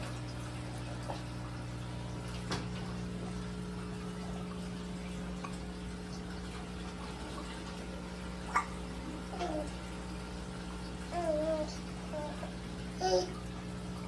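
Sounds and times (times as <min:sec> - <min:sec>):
pump humming: 0:00.0 - 0:14.0
water trickling: 0:00.0 - 0:14.0.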